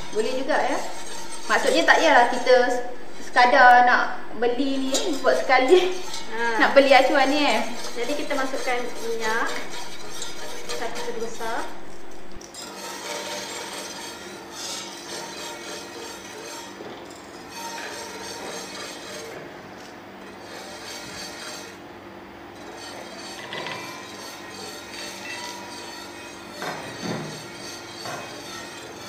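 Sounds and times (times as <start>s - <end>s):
spoon scraping metal moulds: 0.0s - 3.7s, 4.6s - 21.8s, 22.6s - 29.0s
steady low hum: 0.0s - 29.0s.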